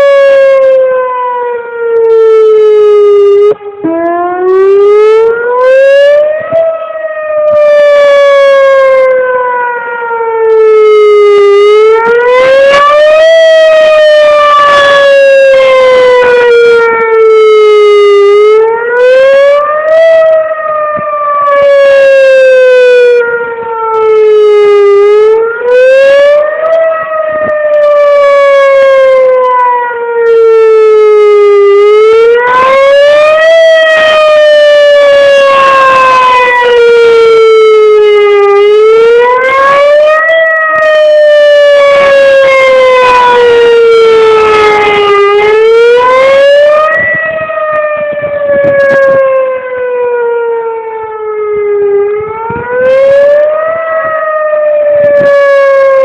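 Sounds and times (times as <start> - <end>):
wavering warning siren: 0.0 - 56.0.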